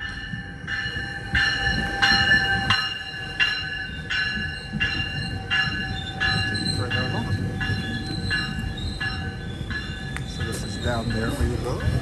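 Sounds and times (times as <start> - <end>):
bell ringing: 0.0 - 12.0
train coaches rumbling past: 0.0 - 12.0.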